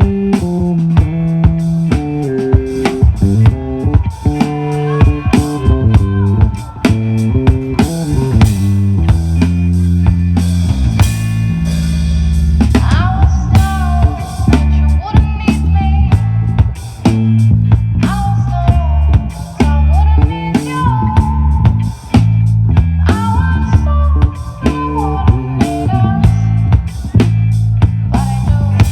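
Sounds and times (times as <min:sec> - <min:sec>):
bass guitar: 0:00.0 - 0:28.9
drum kit: 0:00.0 - 0:28.9
electric guitar bending lead line: 0:00.0 - 0:28.9.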